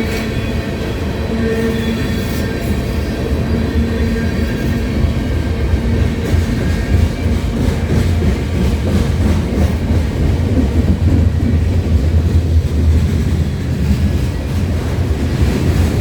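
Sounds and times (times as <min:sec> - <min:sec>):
train clatter: 0:00.0 - 0:16.0
train wheels rumbling on rails: 0:00.0 - 0:16.0.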